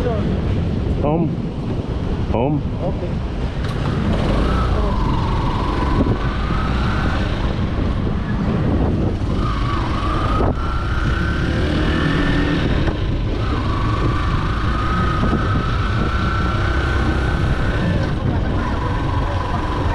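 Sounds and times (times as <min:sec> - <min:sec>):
motorcycle engine revving: 0:03.4 - 0:19.9.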